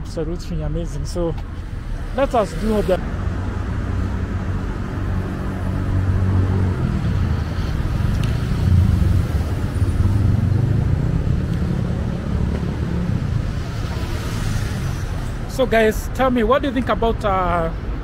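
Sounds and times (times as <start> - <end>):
vehicle engines rumbling: 0.0 - 18.0.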